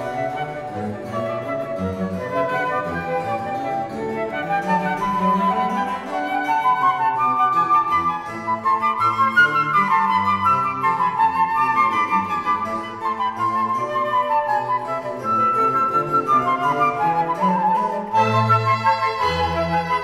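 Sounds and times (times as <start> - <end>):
flute melody: 0.0 - 20.0.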